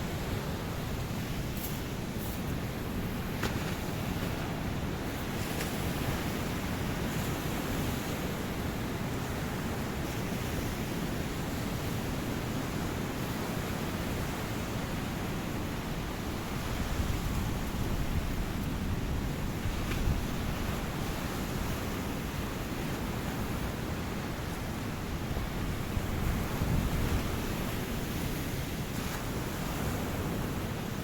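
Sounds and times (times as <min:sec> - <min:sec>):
ocean surf washing onto beach: 0:00.0 - 0:31.0.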